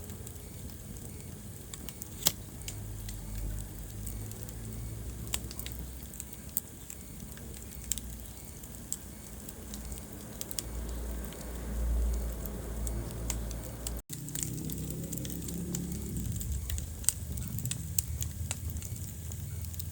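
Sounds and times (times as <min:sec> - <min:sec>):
low rumble of flame: 0:00.0 - 0:19.9
wood fire crackling and popping: 0:00.0 - 0:19.9.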